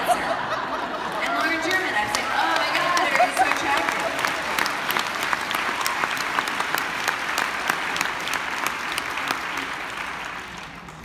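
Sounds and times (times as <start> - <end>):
audience applause: 0.5 - 11.0.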